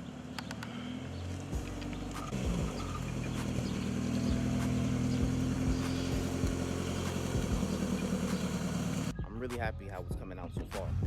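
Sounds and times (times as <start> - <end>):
car engine running at low speed: 0.0 - 9.1.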